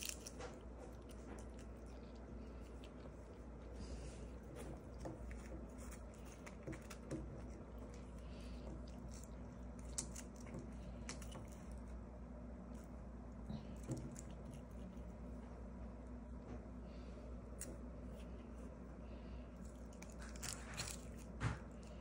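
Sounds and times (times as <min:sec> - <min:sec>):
cat gnawing dried fish: 0:00.0 - 0:22.0.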